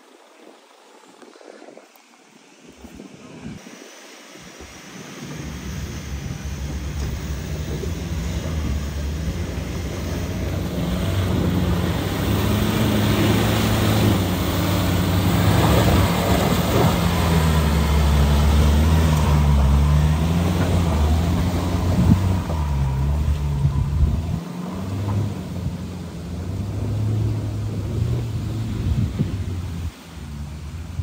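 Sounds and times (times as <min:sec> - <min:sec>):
diesel truck engine revving: 0:05.2 - 0:31.0.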